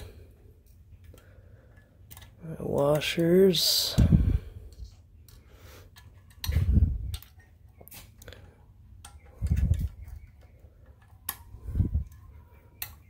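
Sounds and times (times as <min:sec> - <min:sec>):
small metal clicks and taps: 0:00.6 - 0:03.4, 0:04.7 - 0:13.0.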